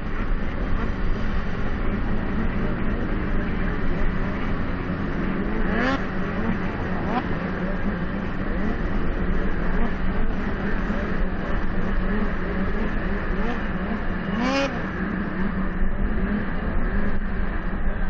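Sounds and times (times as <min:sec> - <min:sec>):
snowmobile engines revving: 0:00.0 - 0:18.0
steady low hum: 0:00.0 - 0:18.0.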